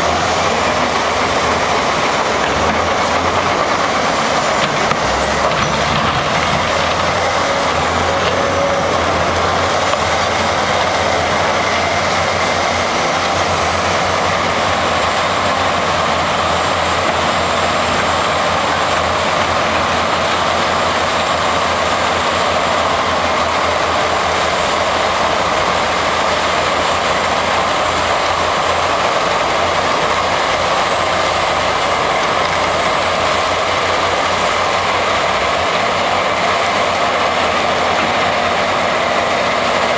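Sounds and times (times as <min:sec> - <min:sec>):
excavator running: 0:00.0 - 0:39.9.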